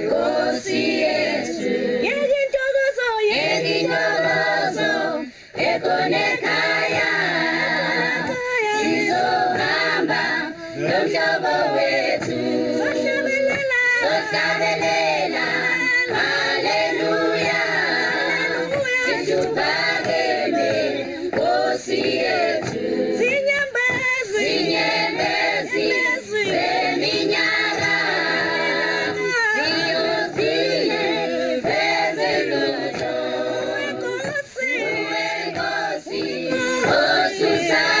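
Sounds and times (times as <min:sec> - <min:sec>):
choir singing a cappella: 0:00.0 - 0:38.0.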